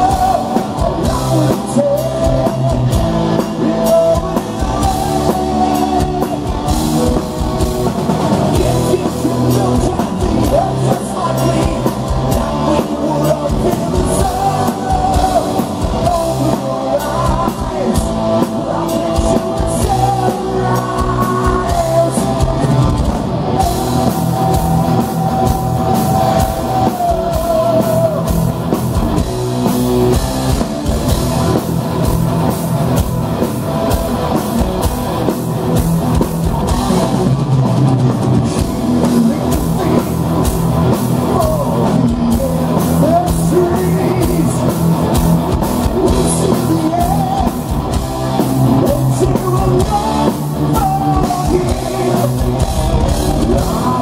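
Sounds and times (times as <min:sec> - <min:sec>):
man singing: 0:00.0 - 0:30.6, 0:38.5 - 0:54.0
distorted electric guitars: 0:00.0 - 0:54.0
pounding drum kit: 0:00.0 - 0:54.0.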